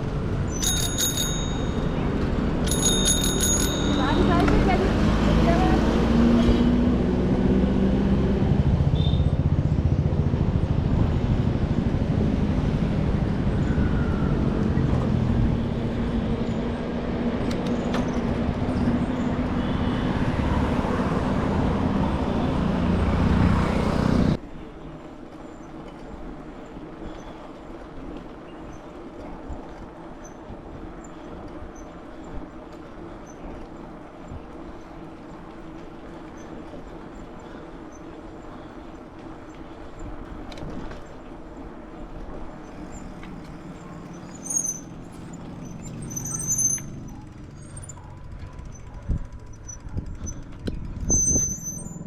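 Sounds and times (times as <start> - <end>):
road traffic rumble: 0.0 - 52.0.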